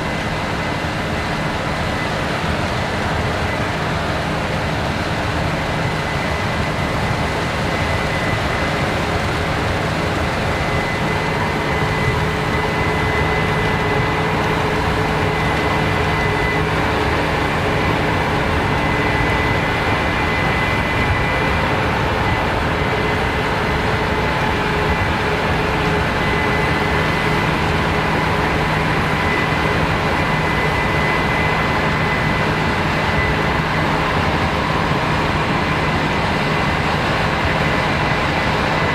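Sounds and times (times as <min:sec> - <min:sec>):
combine harvester running: 0:00.0 - 0:38.9
steady high whine: 0:00.0 - 0:38.9.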